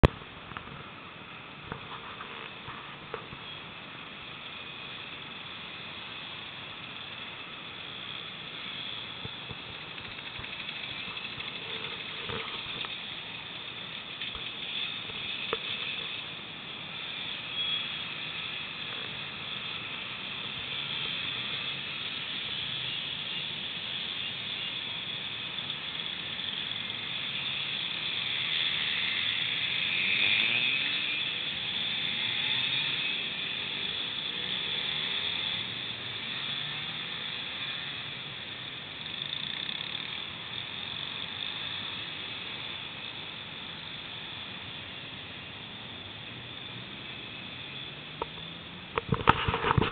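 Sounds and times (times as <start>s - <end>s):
mopeds buzzing past: 4.2s - 45.3s.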